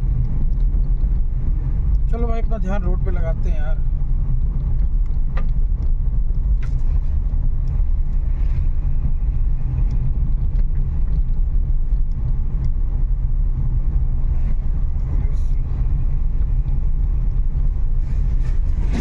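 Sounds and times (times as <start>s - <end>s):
engine and tyres rumbling: 0.0s - 19.0s.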